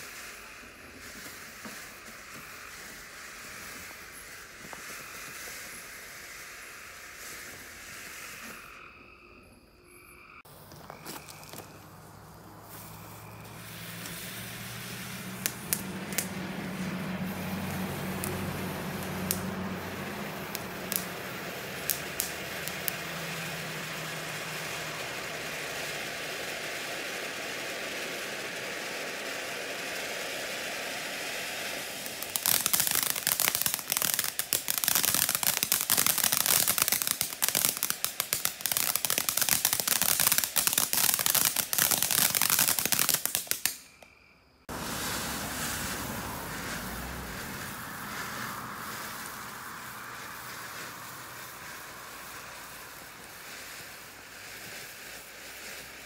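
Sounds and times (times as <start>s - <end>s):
firework pops: 0.0s - 8.6s, 12.7s - 56.0s
rapid firework crackling: 0.0s - 8.8s, 10.5s - 44.0s, 44.7s - 56.0s
fireworks hissing: 0.0s - 8.9s, 10.4s - 56.0s.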